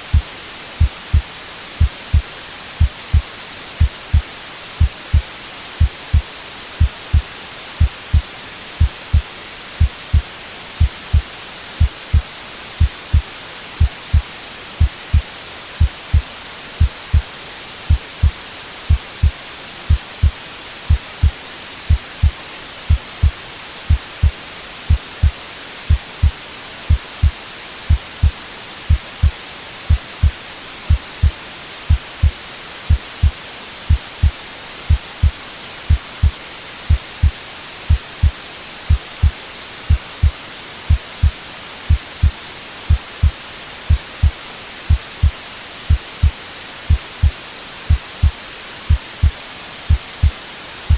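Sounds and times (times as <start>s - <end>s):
white-noise hiss: 0.0s - 50.9s
heartbeat thumps: 0.1s - 5.2s, 5.8s - 15.2s, 15.8s - 17.3s, 17.9s - 50.9s.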